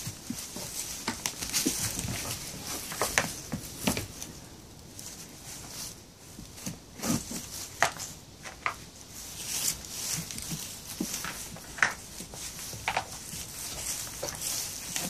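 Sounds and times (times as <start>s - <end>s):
hooves shuffling: 0.0s - 15.0s
straw rustling: 0.0s - 15.0s.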